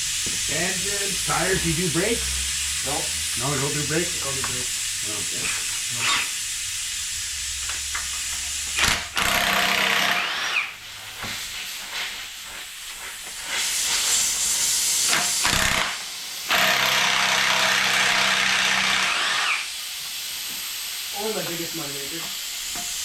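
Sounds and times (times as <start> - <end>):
compressed air hissing: 0.0 - 23.0.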